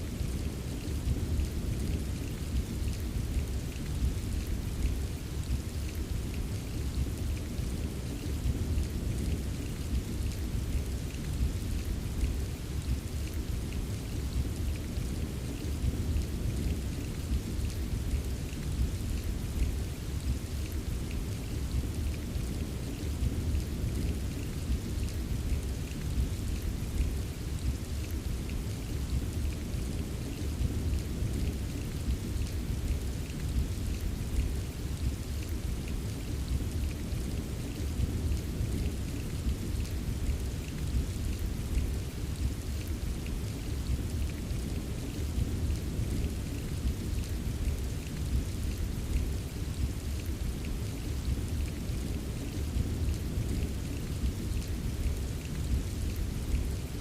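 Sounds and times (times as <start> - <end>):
steady rain falling: 0.0 - 57.0
raindrop ticks: 0.2 - 57.0.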